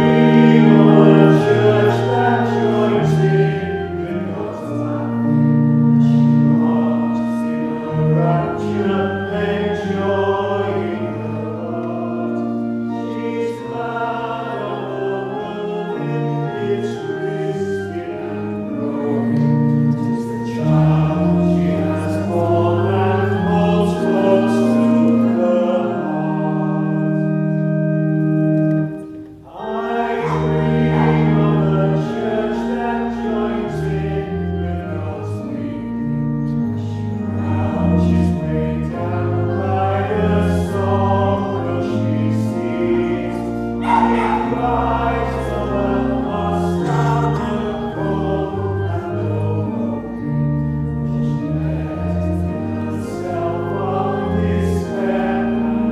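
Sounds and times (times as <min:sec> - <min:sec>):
congregation singing a hymn: 0:00.0 - 0:55.9
organ chords: 0:00.0 - 0:55.9.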